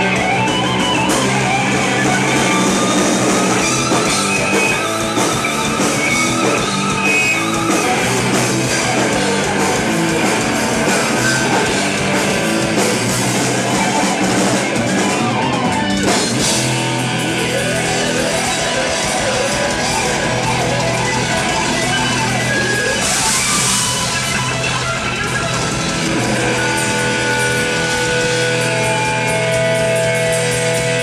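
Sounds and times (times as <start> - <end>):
rock band playing loudly: 0.0 - 31.0.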